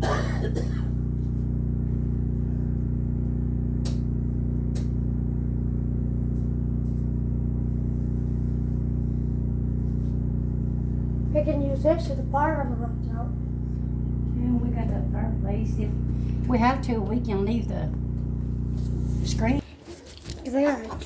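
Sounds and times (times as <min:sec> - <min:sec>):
generator engine droning: 0:00.0 - 0:19.8.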